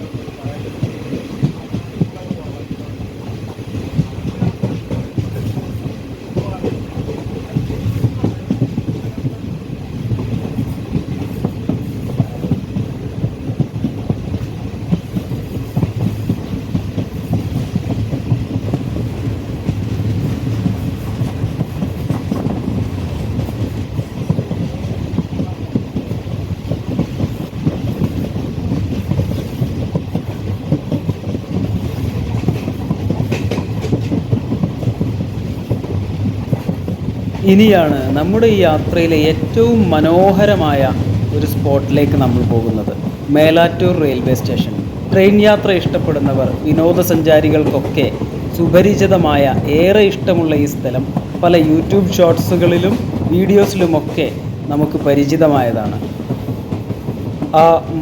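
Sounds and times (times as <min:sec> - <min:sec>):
train rumbling: 0:00.0 - 0:58.0
wheels clattering over rails: 0:00.0 - 0:58.0.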